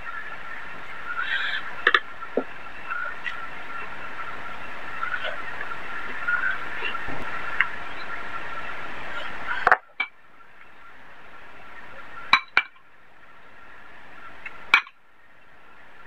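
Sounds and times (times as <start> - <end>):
background hum with faint whine: 0.0 - 16.0.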